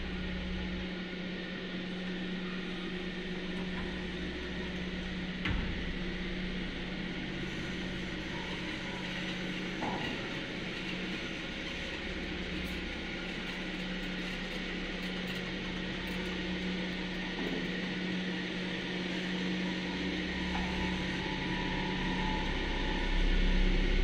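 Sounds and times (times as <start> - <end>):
constant hum: 0.0 - 24.0
elevator car rumble and whir: 0.0 - 24.0.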